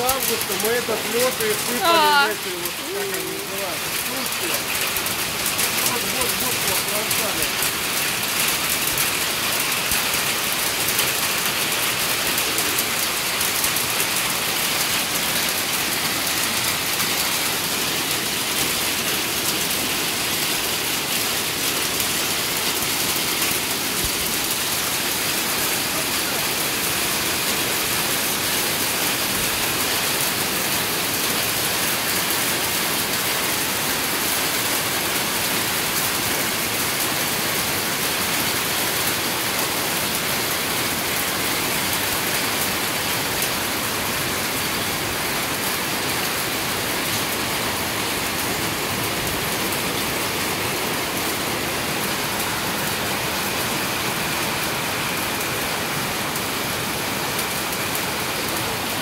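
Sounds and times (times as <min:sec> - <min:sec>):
hail on metal roofs: 0:00.0 - 0:59.0
heavy rain hiss: 0:00.0 - 0:59.0.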